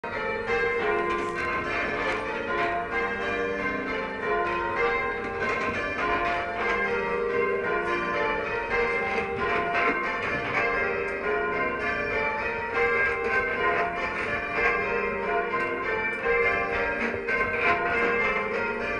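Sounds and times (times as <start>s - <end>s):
church bells ringing: 0.0s - 18.9s.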